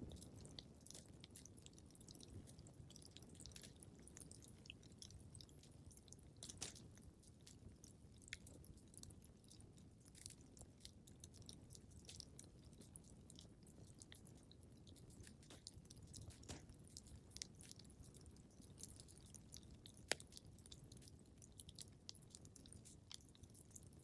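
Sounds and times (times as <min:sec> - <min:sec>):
wood fire crackling: 0:00.0 - 0:21.3.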